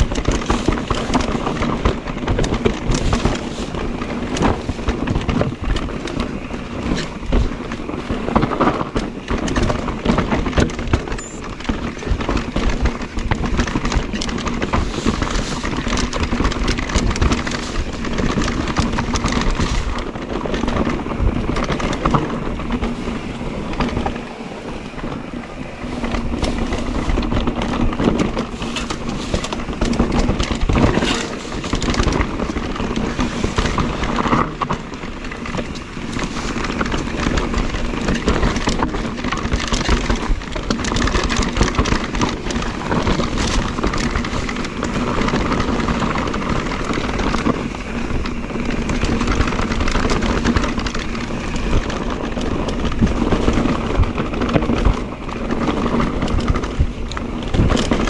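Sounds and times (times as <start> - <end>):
bike rattling and knocking: 0.0 - 58.0
tyres rolling over gravel: 0.0 - 58.0
wind on microphone: 0.0 - 58.0.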